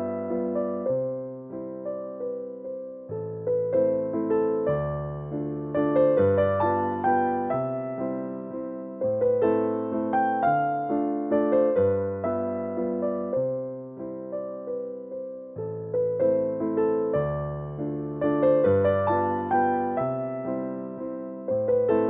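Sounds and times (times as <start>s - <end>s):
gentle piano piece: 0.0s - 22.0s.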